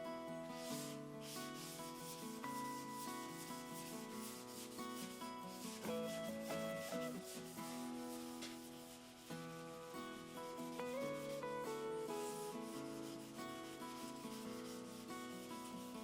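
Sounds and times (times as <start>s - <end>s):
acoustic guitar music: 0.0s - 16.0s
hand sanding strokes: 0.6s - 16.0s.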